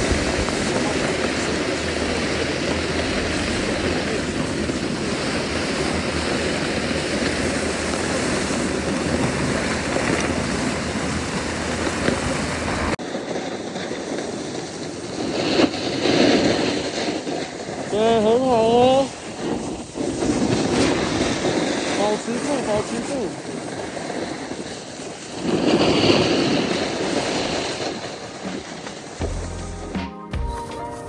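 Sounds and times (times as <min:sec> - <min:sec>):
wind rushing over microphone: 0:00.0 - 0:29.3
snowboard scraping on snow: 0:00.0 - 0:31.0.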